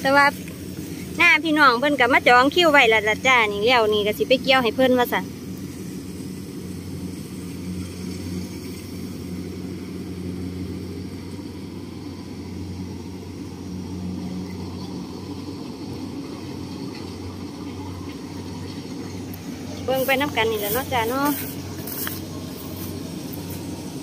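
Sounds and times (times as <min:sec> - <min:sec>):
distant harvester engine hum: 0:00.0 - 0:24.0.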